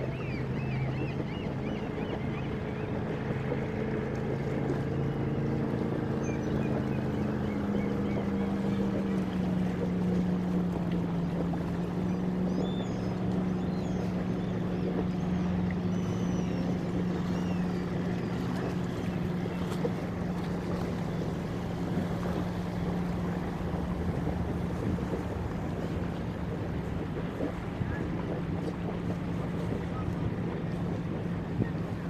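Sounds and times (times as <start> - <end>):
boat engine humming: 0.0 - 32.0
wind and water hissing: 5.6 - 32.0.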